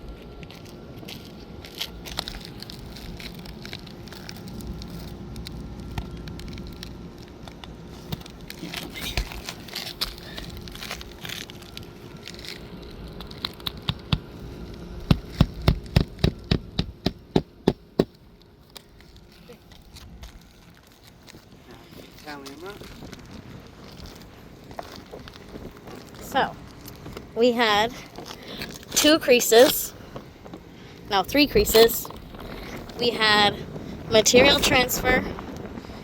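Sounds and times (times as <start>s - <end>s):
scraping on asphalt shingles: 0.5s - 36.0s.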